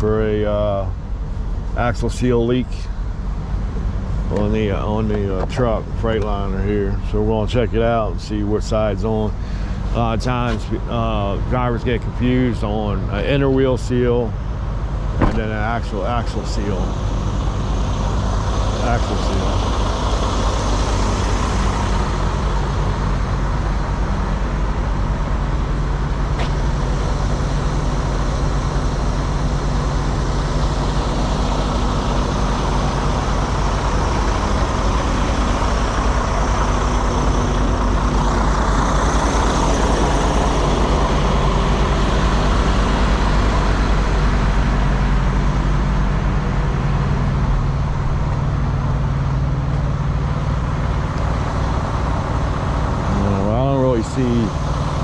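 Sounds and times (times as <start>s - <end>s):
highway traffic noise: 0.0s - 55.0s
truck diesel engine idling: 0.0s - 55.0s.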